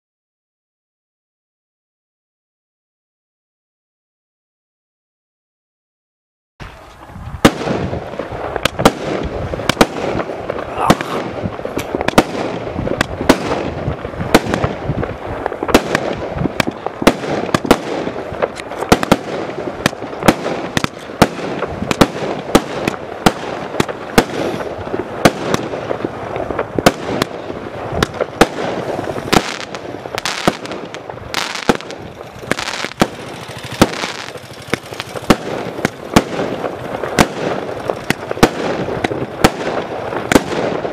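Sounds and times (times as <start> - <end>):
firework crackle: 6.6 - 40.9
firework barrage bangs: 6.7 - 40.9.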